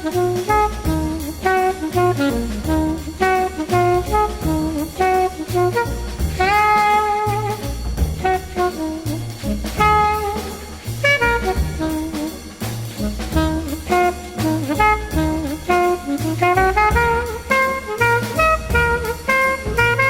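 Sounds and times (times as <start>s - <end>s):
jazz music with horns: 0.0s - 20.0s.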